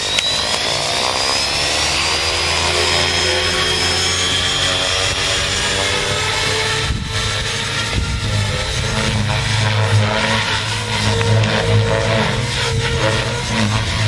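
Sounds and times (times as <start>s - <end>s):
high motor whine: 0.0s - 14.0s
rotor beat: 2.4s - 14.0s.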